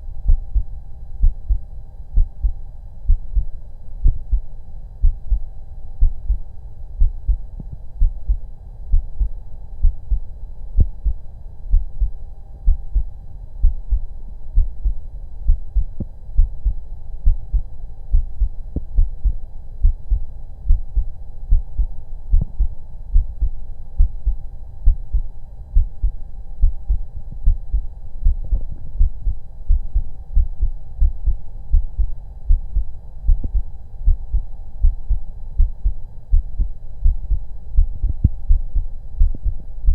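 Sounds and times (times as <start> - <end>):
faint steady hum: 0.0 - 39.9
heartbeat thumps through stethoscope: 0.3 - 1.6, 2.2 - 4.4, 7.0 - 7.4, 8.0 - 10.2, 10.8 - 12.1, 14.6 - 25.2, 25.8 - 39.9.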